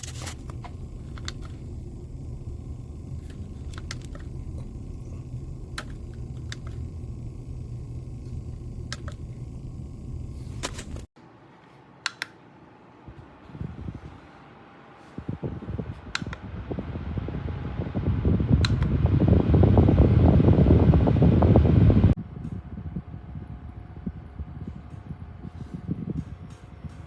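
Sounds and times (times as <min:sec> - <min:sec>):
desk fan whirring: 0:00.0 - 0:11.1, 0:13.1 - 0:27.0.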